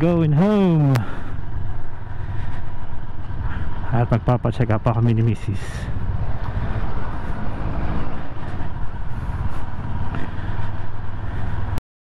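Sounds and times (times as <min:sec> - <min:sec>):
wind and road noise hiss: 0:00.0 - 0:11.8.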